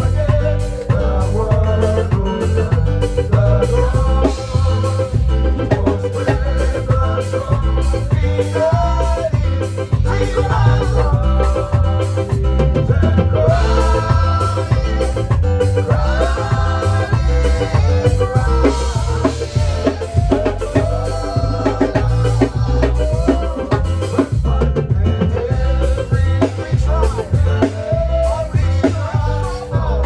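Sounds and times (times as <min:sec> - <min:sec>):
upbeat gospel band music: 0:00.0 - 0:30.0.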